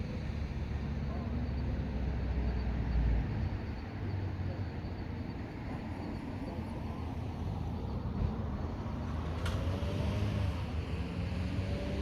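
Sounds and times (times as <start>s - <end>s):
car traffic rumble: 0.0s - 12.0s.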